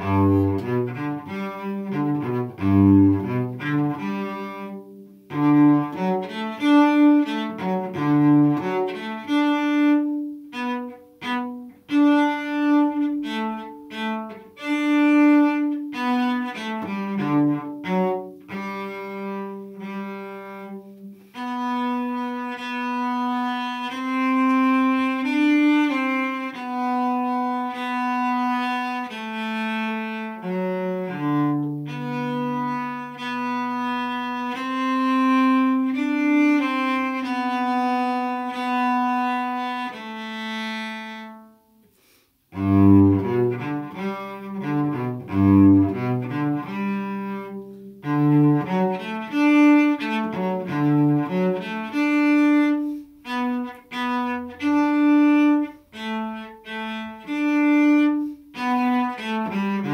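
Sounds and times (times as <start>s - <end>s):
bowed cello: 0.0s - 59.9s.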